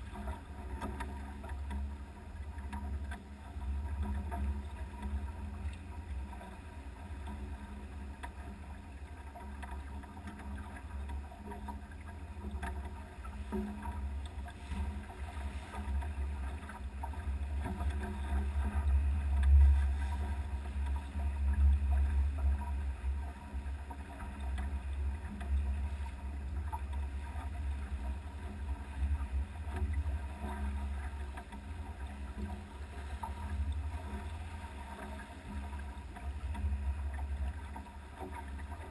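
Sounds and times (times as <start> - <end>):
water rushing along hull: 0.0 - 38.9.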